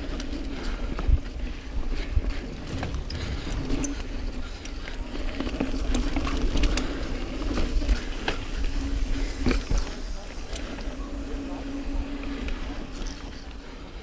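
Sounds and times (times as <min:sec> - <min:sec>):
bike rattles and clicks: 0:00.0 - 0:14.0.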